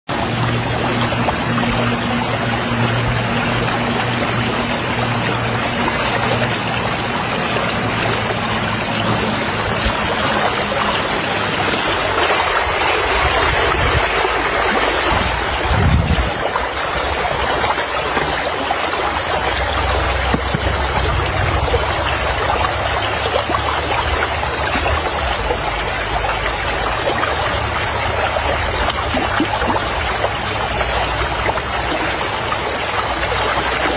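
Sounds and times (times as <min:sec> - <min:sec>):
water running and splashing: 0:00.1 - 0:33.9.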